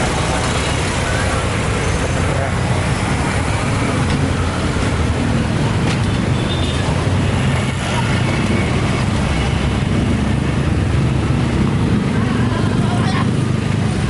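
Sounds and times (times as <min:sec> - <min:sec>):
traffic engines rumbling: 0:00.0 - 0:14.0.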